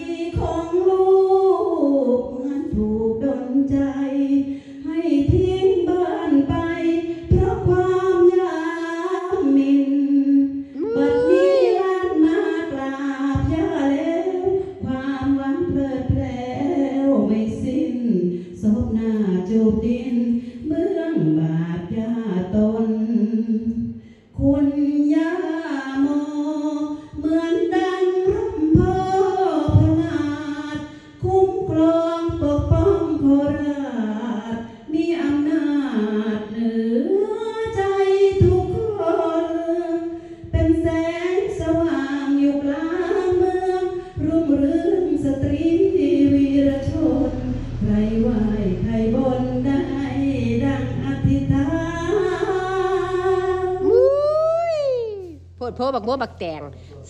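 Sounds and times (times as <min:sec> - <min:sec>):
woman singing unaccompanied: 0:00.0 - 0:56.4.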